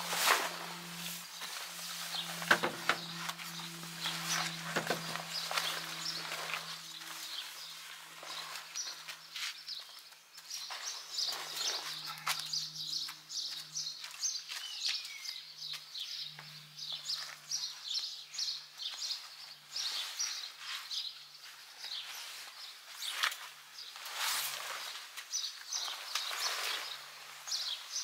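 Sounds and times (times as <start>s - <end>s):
small birds chirping: 0.5s - 28.0s.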